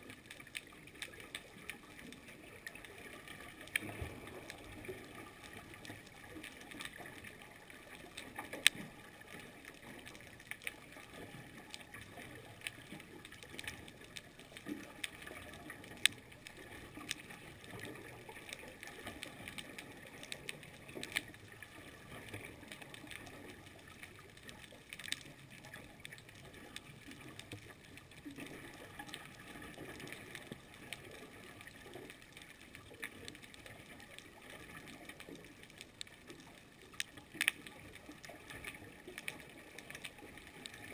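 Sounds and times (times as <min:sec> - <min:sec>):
muffled underwater hiss: 0:00.0 - 0:40.9
underwater clicks and crackles: 0:00.0 - 0:40.9.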